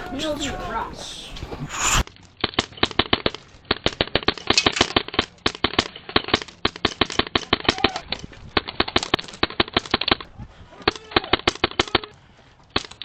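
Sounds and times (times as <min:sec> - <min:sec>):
airsoft rifles firing: 0:02.4 - 0:13.0.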